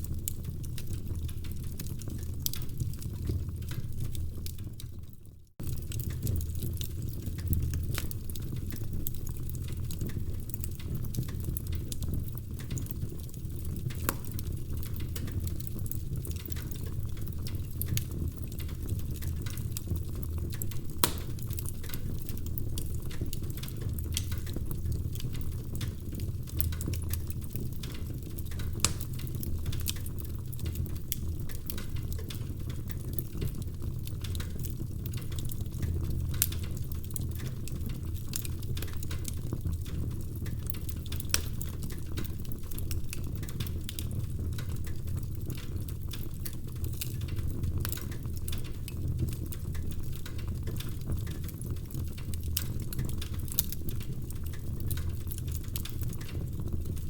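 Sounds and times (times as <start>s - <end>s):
low rumble of burning logs: 0.0s - 57.0s
wood fire crackling and popping: 0.0s - 57.0s.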